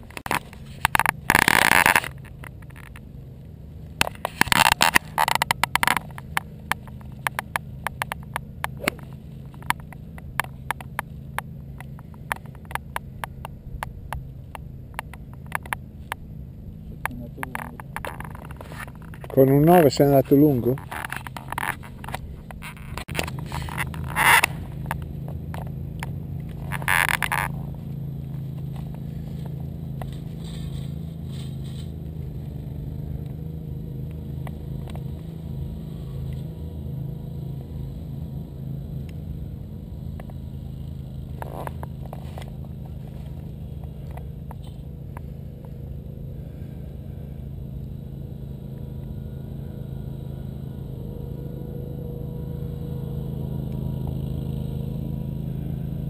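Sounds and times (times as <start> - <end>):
low motor hum: 0.0 - 56.0.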